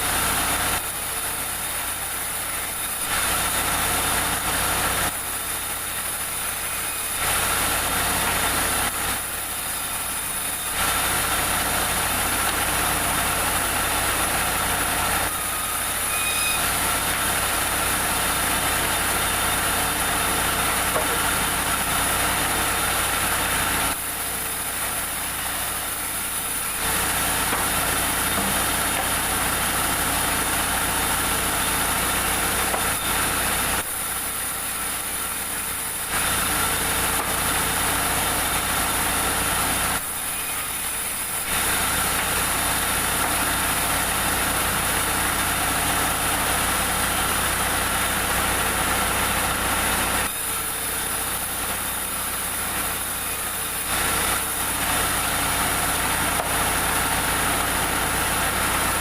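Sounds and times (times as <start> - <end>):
sawmill machinery hum and whine: 0.0 - 59.0.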